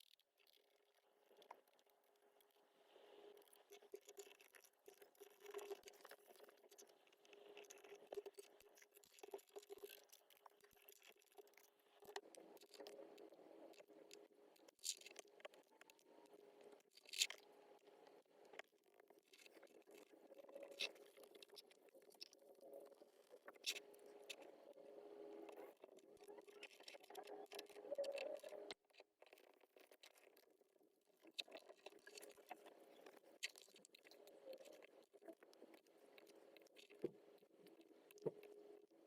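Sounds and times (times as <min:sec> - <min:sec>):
faint steady hum: 0:00.6 - 0:28.8, 0:29.7 - 0:39.0.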